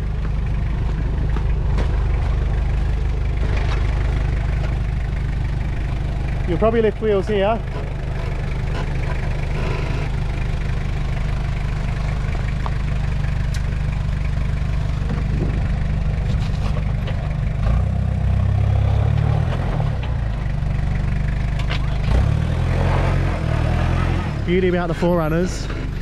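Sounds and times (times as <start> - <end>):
diesel engine running at low revs: 0.0 - 26.0.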